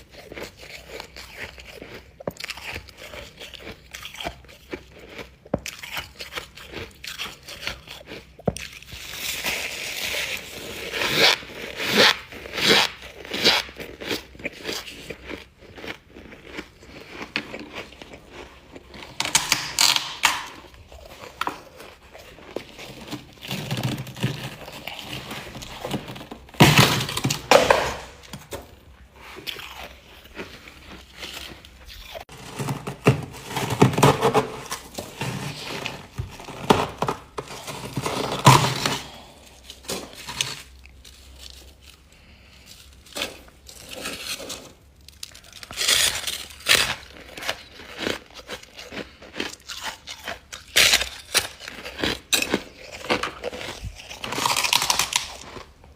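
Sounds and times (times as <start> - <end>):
frost being chewed crunching: 0.0 - 55.9.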